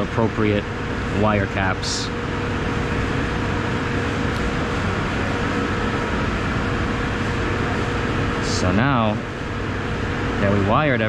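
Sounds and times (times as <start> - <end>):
machinery running: 0.0 - 11.0.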